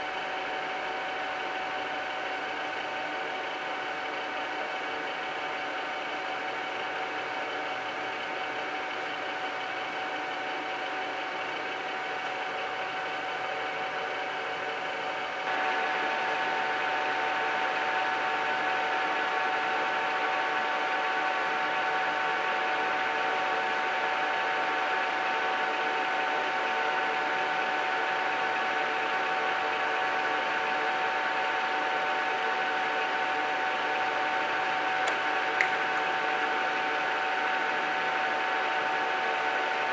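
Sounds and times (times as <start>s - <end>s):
lathe running with whine: 0.0s - 39.9s.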